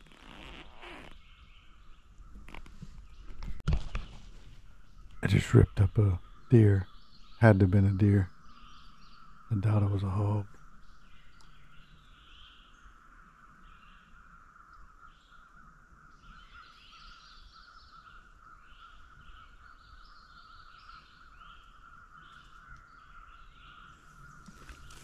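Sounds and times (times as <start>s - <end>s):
distant crows cawing: 4.6s - 25.0s.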